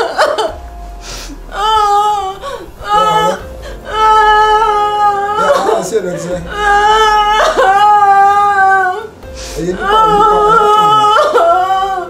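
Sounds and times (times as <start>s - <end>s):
woman wailing and sobbing: 0.0s - 12.0s.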